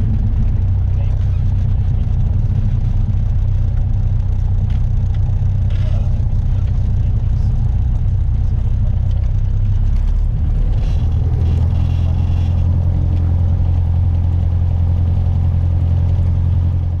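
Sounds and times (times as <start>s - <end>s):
aircraft engine drone from cabin: 0.0s - 17.0s.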